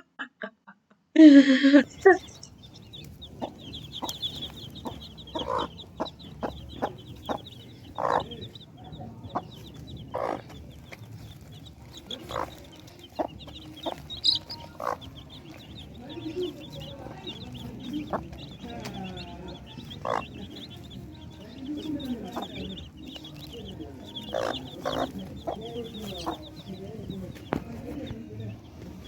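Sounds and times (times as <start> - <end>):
chickens clucking: 1.8 - 29.0
faint high-pitched chirping: 2.0 - 29.0.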